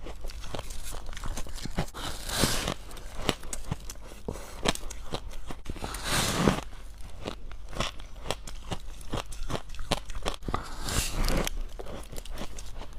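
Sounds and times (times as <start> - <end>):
crunching and chewing ice: 0.0 - 12.9.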